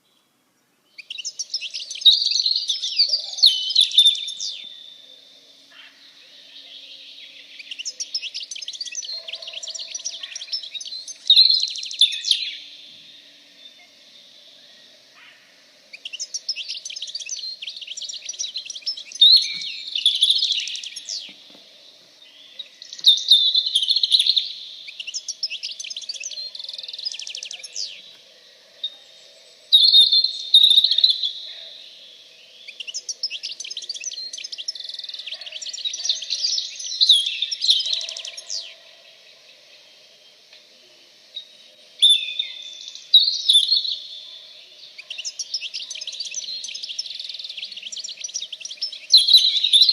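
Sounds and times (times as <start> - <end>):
songbird warbling and trilling: 0.9 - 14.0, 14.6 - 21.6, 22.2 - 28.2, 28.8 - 38.8, 41.4 - 49.9.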